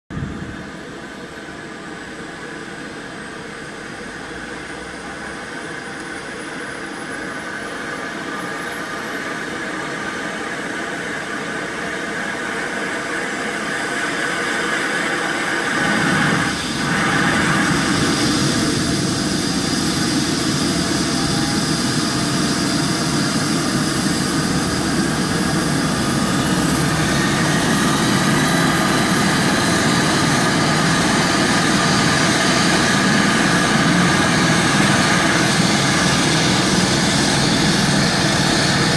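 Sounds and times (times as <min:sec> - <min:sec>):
helicopter turbine engines whining: 0:00.2 - 0:38.9
helicopter rotor noise: 0:02.5 - 0:38.9.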